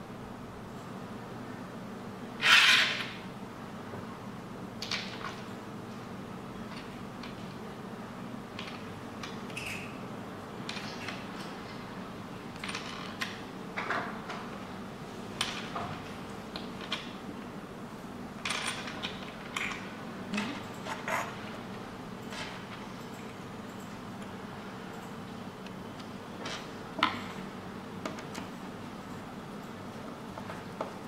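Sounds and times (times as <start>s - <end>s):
steady low hum: 0.0s - 2.4s, 3.1s - 31.0s.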